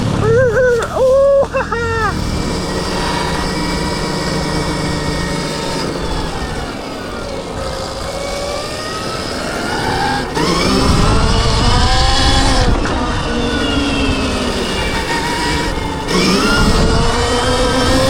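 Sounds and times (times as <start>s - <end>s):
electric motorbike motor whining: 0.0s - 18.0s.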